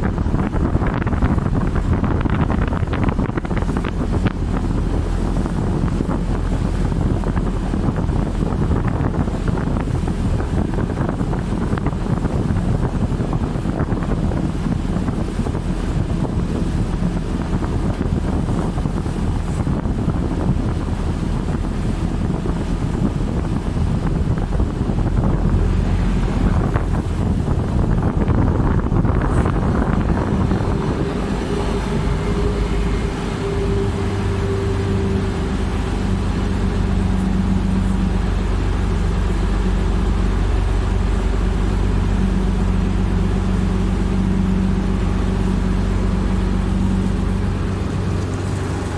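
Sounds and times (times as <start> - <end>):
boat engine rumble: 0.0 - 48.9
rushing water: 0.0 - 48.9
wind buffeting microphone: 0.0 - 48.9.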